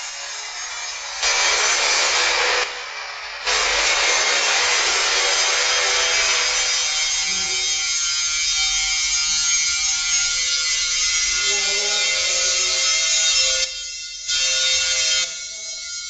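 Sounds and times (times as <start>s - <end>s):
grinder rasping on metal: 0.0s - 15.9s.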